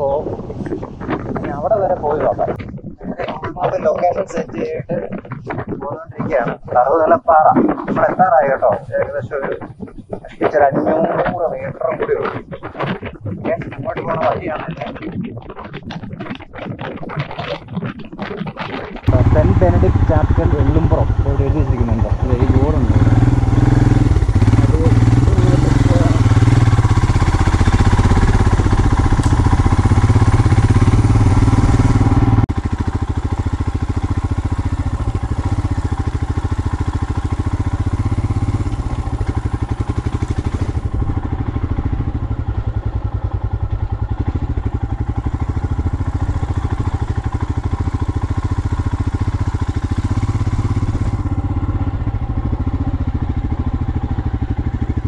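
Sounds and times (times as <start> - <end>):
road noise: 0.0 - 17.6, 18.2 - 55.0
vehicle engine running: 0.0 - 55.0.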